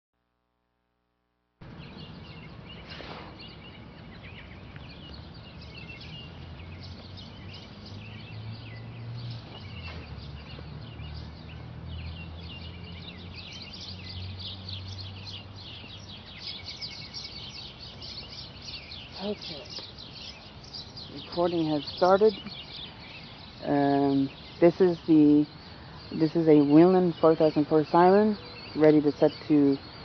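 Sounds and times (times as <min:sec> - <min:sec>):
small birds chirping: 0:01.6 - 0:30.0.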